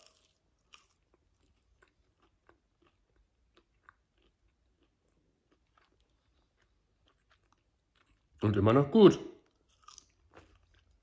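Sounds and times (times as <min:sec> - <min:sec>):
crunchy chewing: 0:00.0 - 0:08.4, 0:09.4 - 0:11.0.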